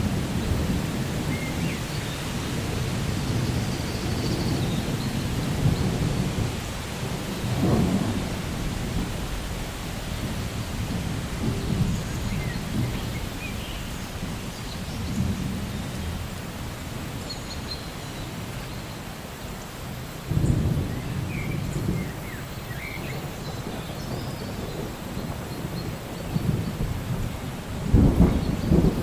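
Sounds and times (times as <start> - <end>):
rolling thunder: 0.0 - 17.2, 20.2 - 29.0
steady rain falling: 0.0 - 29.0.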